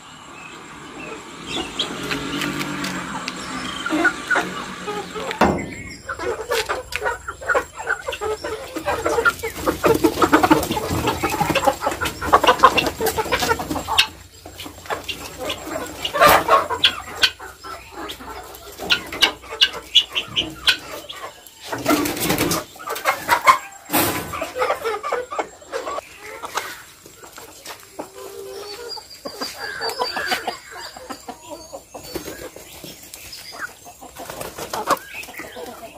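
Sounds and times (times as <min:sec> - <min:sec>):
chickens clucking: 0:00.0 - 0:35.9.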